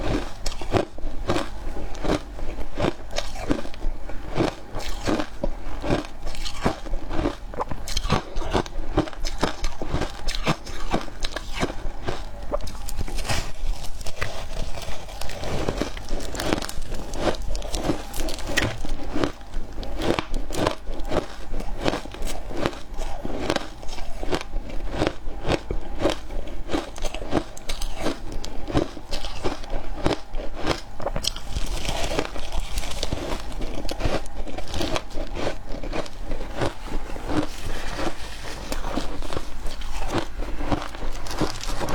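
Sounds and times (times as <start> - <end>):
crunching and chewing ice: 0.0 - 41.9.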